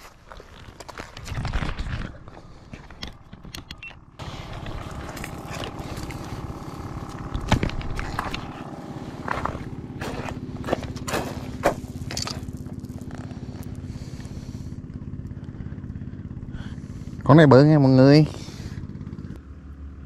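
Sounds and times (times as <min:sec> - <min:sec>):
small engine running: 0:01.4 - 0:20.0.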